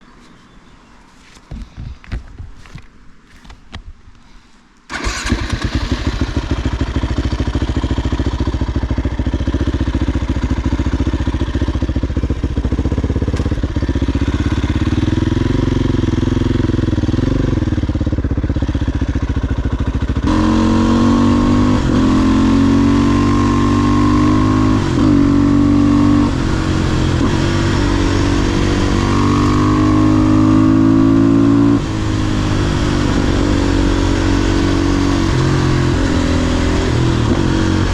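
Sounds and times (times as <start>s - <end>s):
motorcycle engine: 4.9s - 37.9s.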